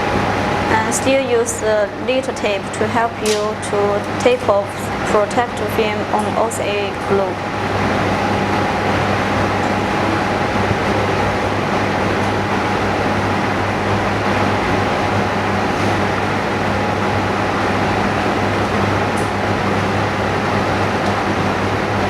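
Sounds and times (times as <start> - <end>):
low electrical drone: 0.0 - 22.0
machinery hum and hiss: 0.0 - 22.0.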